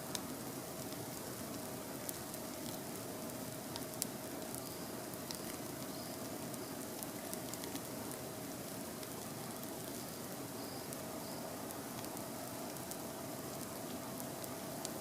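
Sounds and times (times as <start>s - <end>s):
campfire crackling and popping: 0.1s - 15.0s.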